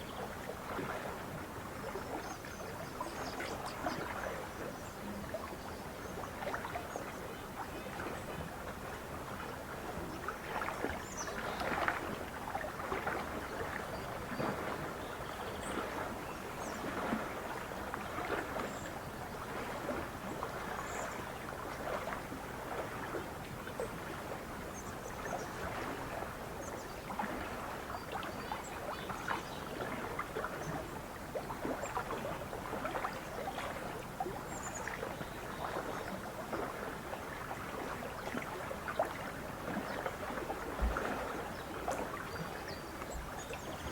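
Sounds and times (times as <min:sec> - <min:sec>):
lake water lapping: 0:00.0 - 0:43.9.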